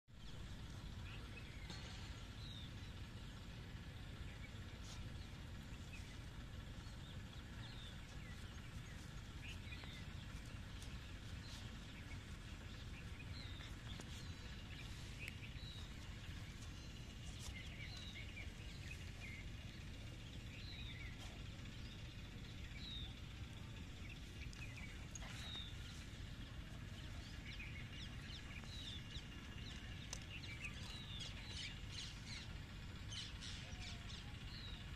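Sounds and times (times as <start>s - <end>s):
birds chirping: 0.1s - 34.9s
low background rumble: 0.1s - 34.9s.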